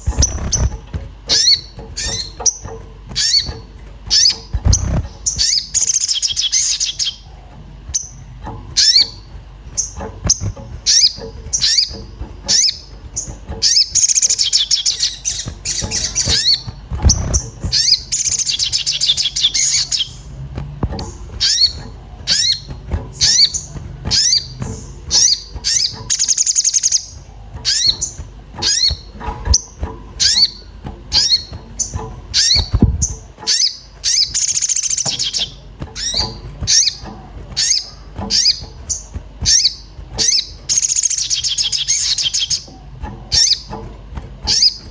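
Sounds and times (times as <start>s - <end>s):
bird chirping and chattering: 0.0s - 44.9s.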